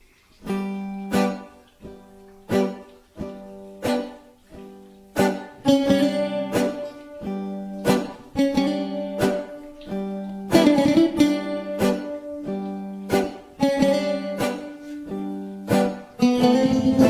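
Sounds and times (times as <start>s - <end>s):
bouzoukis plucked chords: 0.3s - 17.0s.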